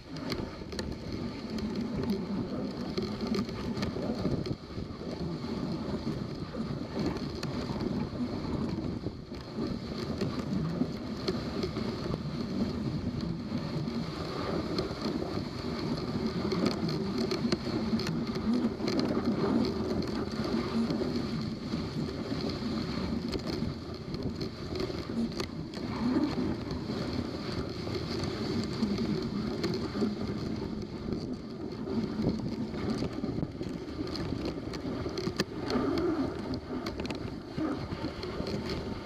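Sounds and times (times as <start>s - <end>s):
sled runners scraping on snow: 0.0s - 39.0s
wind on microphone: 0.0s - 39.0s.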